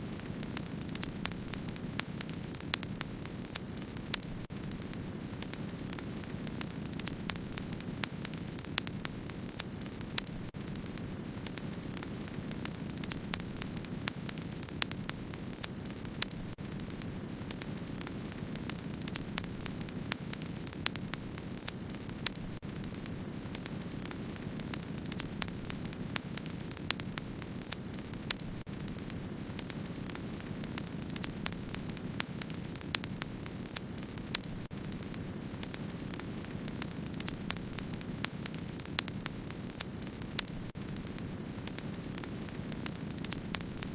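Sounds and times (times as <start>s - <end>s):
loud pops of fire: 0.0s - 43.9s
wood fire crackling: 0.0s - 43.9s.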